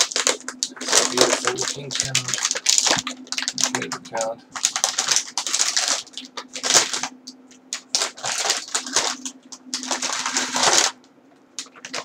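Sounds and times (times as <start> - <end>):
plastic bag crinkling: 0.0 - 11.0, 11.6 - 12.0.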